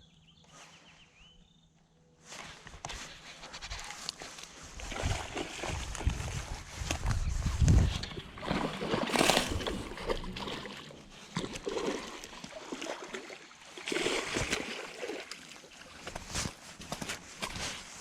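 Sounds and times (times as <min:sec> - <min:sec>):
water splashing and sloshing: 0:02.8 - 0:18.0.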